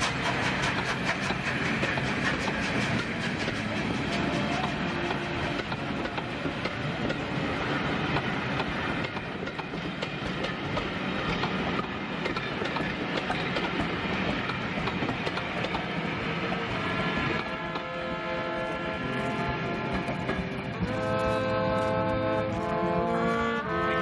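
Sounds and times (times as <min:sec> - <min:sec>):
train wheels clattering on rails: 0:00.0 - 0:18.0, 0:18.6 - 0:22.8.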